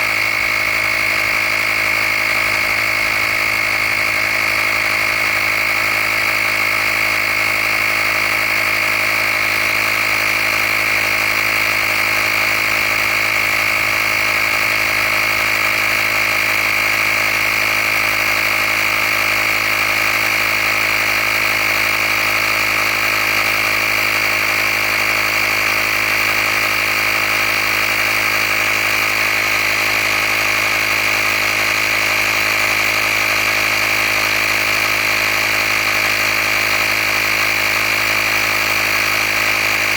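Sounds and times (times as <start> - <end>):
air compressor whining drone: 0.0 - 39.9.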